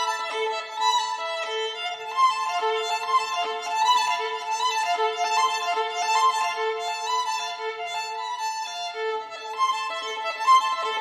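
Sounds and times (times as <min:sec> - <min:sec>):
violin melody: 0:00.0 - 0:11.0.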